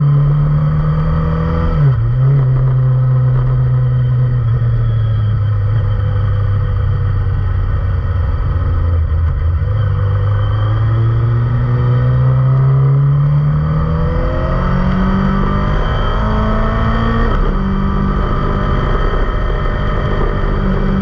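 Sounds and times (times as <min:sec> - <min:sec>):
motorcycle engine at steady revs: 0:00.0 - 0:21.0.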